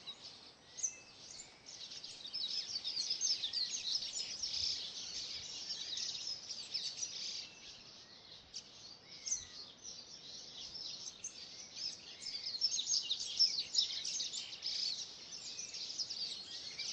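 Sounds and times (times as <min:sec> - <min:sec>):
birds chirping and calling: 0:00.0 - 0:16.9.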